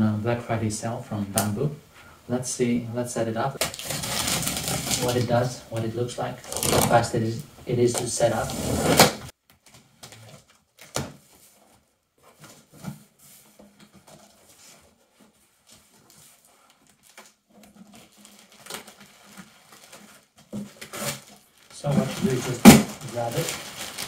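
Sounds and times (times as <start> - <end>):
plastic wrapping rustling: 3.6 - 24.0.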